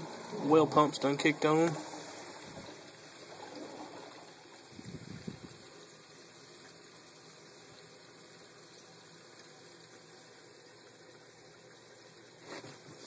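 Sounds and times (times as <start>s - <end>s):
water rushing through pipes: 0.0s - 13.0s.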